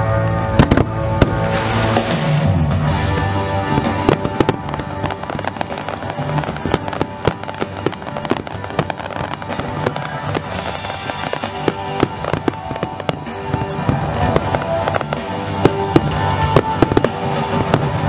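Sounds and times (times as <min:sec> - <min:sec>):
music playing: 0:00.0 - 0:18.0
fireworks bangs and crackles: 0:00.1 - 0:18.0.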